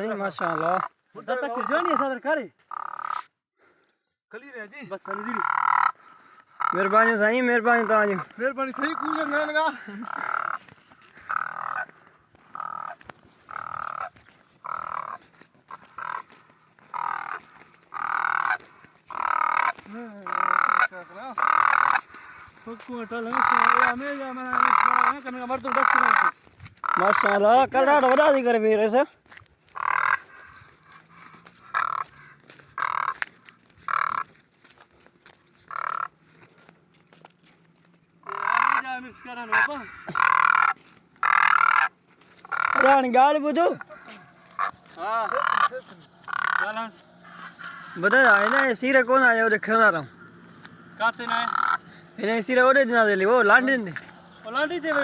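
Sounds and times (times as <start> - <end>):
crane rattling calls: 0.0 - 3.5, 4.4 - 55.0.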